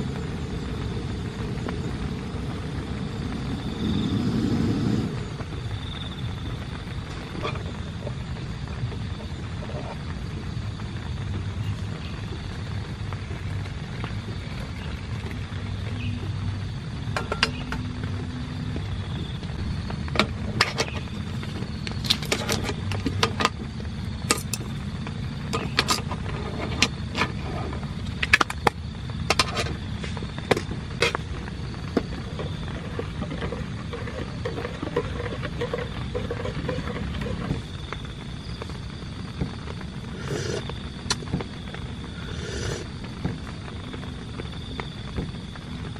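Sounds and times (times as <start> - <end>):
heavy rain on a tent: 0.0 - 45.9.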